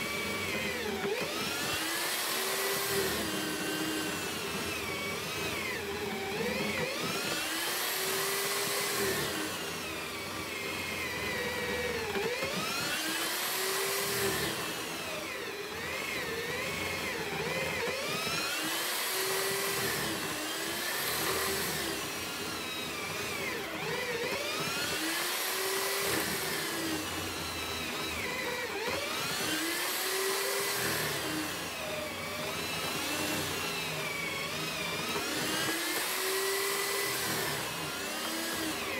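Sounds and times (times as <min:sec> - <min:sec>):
electric drill boring into wood: 0:00.0 - 0:38.9.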